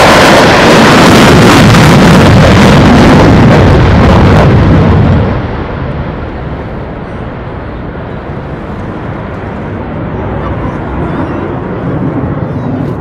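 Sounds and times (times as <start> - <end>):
jet engine in afterburner: 0.0 - 13.0.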